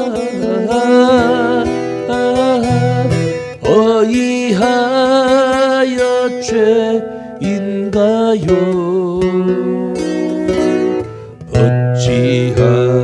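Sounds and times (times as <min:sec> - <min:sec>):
man singing: 0:00.0 - 0:10.8, 0:11.5 - 0:13.0
acoustic guitar playing: 0:00.0 - 0:13.0.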